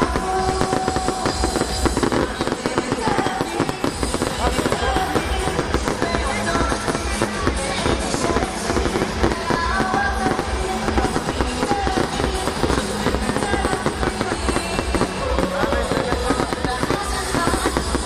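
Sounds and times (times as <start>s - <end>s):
fireworks banging and crackling: 0.0s - 18.0s
loud music with steady beat: 0.0s - 18.0s.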